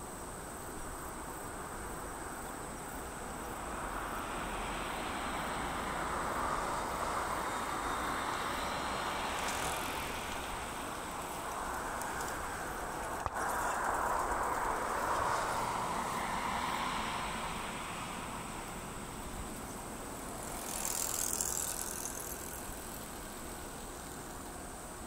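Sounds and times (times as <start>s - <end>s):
distant jet engine rush: 2.1s - 25.0s.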